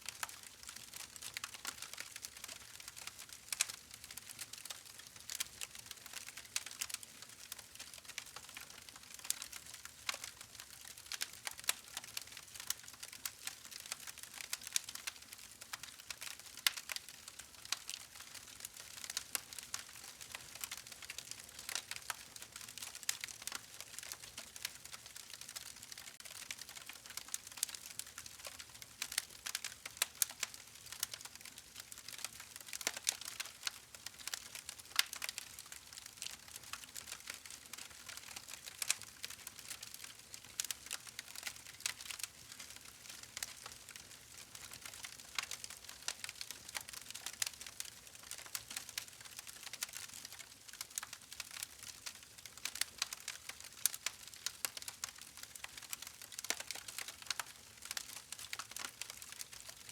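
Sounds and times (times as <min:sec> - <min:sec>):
wood fire crackling: 0:00.2 - 0:59.9.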